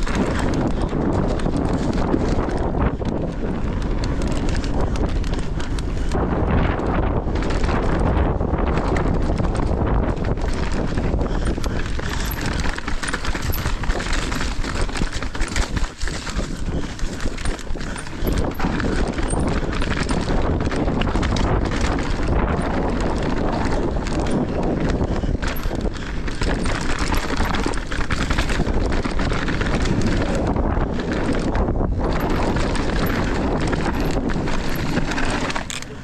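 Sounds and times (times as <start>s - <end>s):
bike rattling over bumps: 0.0s - 36.0s
bike tyres rolling over dirt: 0.0s - 36.0s.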